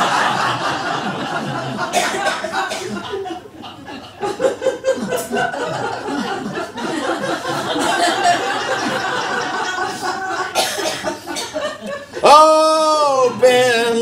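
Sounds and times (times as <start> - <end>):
audience laughing: 0.0 - 12.3.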